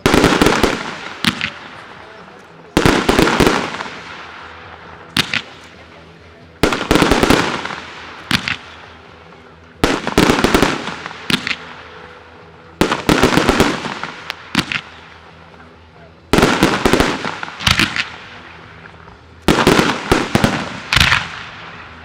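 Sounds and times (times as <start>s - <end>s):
fireworks bursting with sharp bangs: 0.0s - 15.7s, 16.3s - 22.0s.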